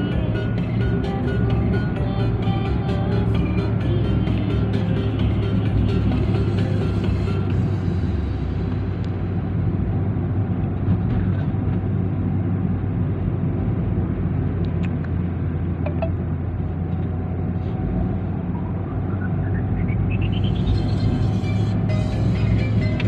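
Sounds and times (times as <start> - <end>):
car engine hum inside cabin: 0.0 - 23.0.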